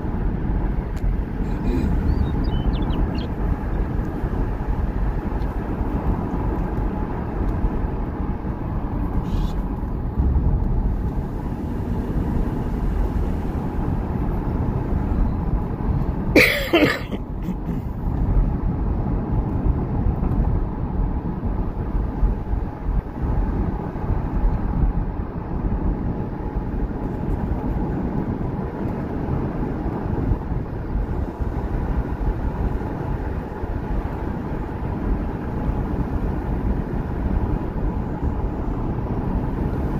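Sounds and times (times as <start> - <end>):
car driving on dirt road: 0.0 - 39.9.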